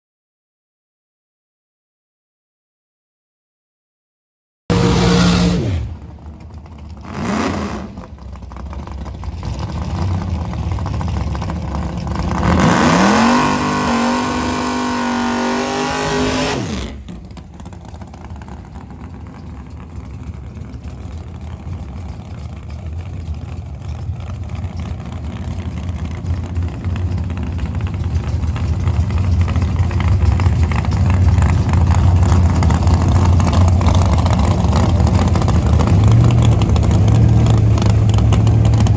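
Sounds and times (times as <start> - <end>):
drag racing car engine revving: 4.7 - 38.9
low engine rumble: 4.7 - 38.9.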